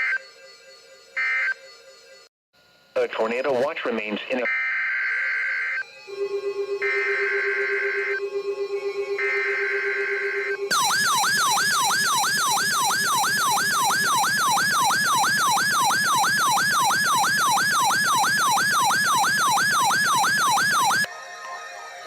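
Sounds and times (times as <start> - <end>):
electronic siren wailing: 0.0 - 2.3, 4.4 - 22.0.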